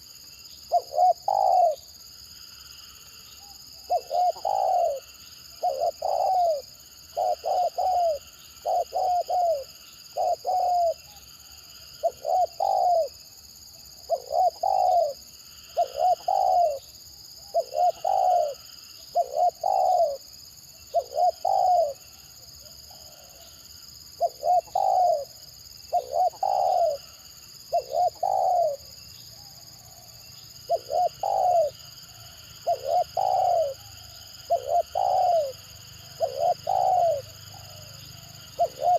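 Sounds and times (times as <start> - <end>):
dove cooing: 0.7 - 2.0, 3.4 - 11.2, 12.0 - 13.2, 14.0 - 20.3, 20.9 - 23.5, 24.1 - 29.0, 29.8 - 38.9.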